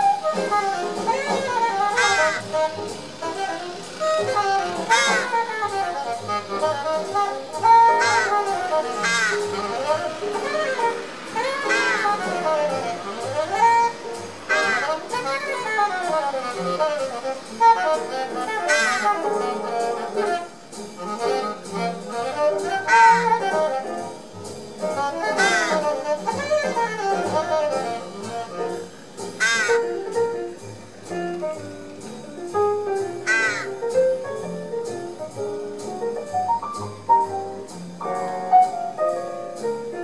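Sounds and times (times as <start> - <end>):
jazz with saxophone and brass: 0.0 - 40.0.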